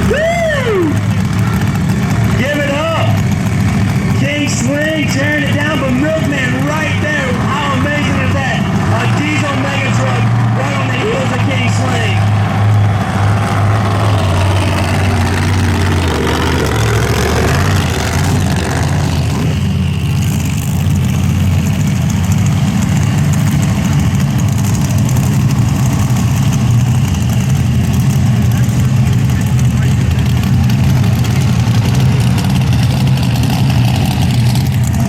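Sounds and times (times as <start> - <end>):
truck engines deep rumble: 0.0 - 35.0.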